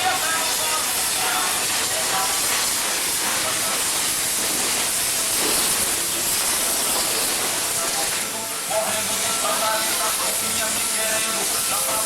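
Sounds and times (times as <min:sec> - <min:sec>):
loud steady hissing: 0:00.0 - 0:12.0.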